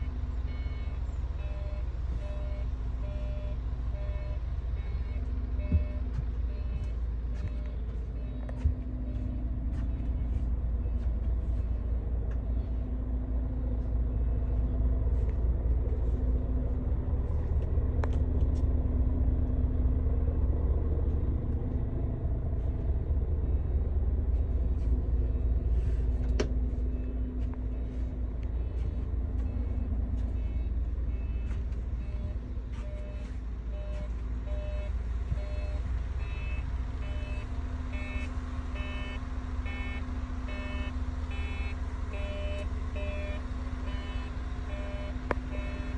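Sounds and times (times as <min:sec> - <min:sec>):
faint beeping: 0:00.0 - 0:15.2, 0:23.1 - 0:45.9
diesel engine idling: 0:00.0 - 0:45.9.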